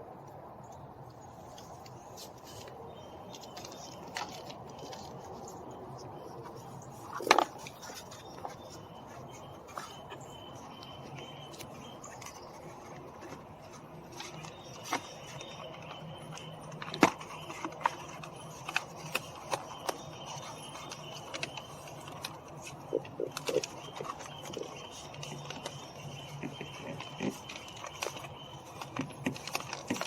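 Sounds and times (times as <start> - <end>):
low steady background noise: 0.0 - 30.0.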